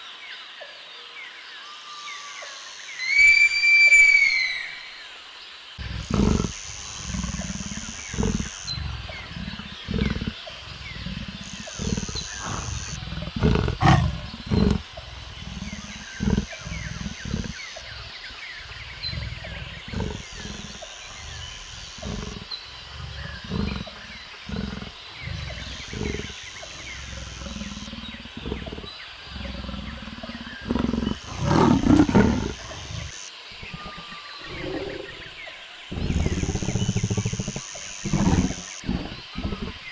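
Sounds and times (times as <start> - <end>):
animal making deep calls: 5.8 - 39.9.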